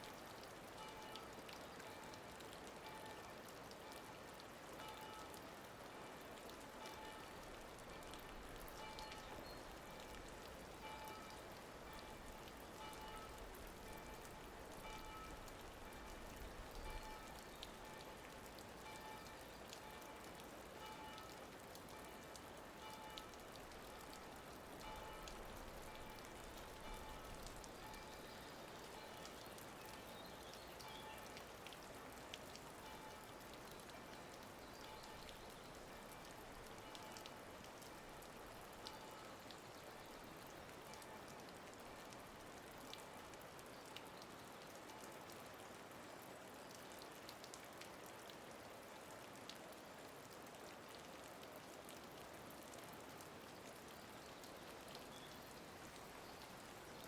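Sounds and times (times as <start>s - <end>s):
steady rain-like hiss: 0.0s - 57.0s.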